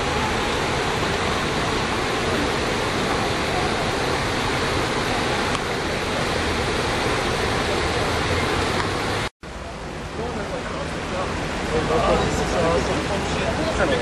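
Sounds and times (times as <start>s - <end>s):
creek rapids rushing: 0.0s - 14.0s.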